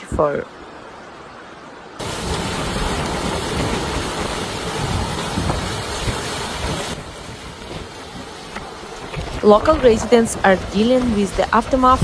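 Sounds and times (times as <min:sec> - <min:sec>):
rushing storm noise: 0:00.0 - 0:12.0
wind buffeting microphone: 0:02.0 - 0:12.0.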